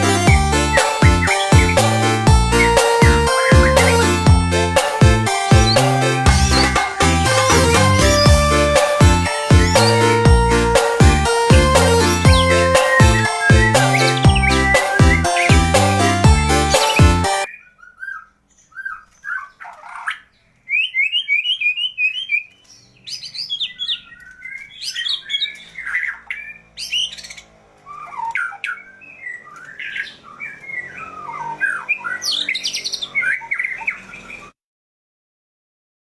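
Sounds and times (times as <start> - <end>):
songbird singing: 0.0 - 34.6.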